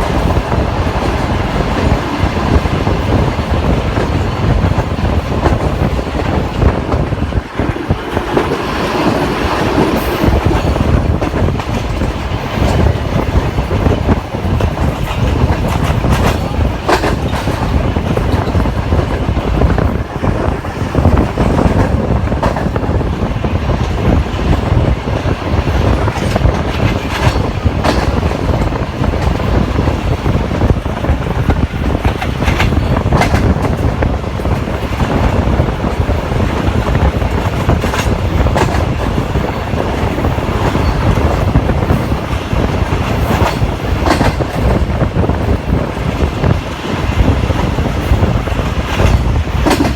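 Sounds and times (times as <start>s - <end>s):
clacks over rail joints: 0.0s - 49.9s
train wheels rumbling on rail: 0.0s - 49.9s.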